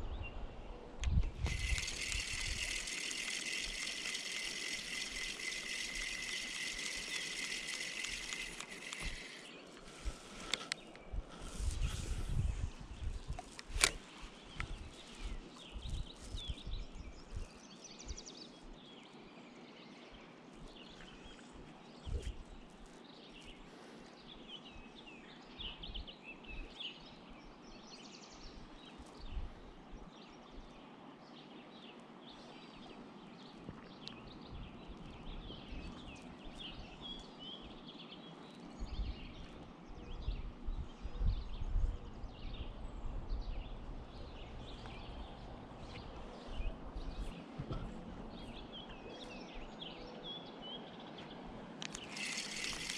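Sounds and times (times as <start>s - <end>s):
birds singing and chirping: 1.1s - 29.4s, 31.4s - 52.9s.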